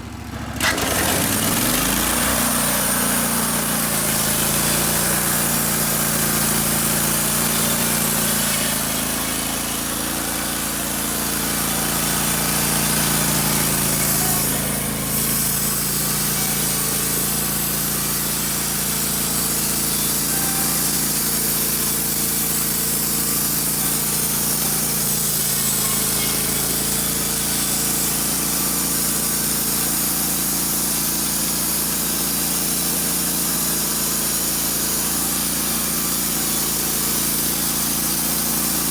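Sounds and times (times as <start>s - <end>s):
band sawmill cutting log: 0.0s - 38.9s.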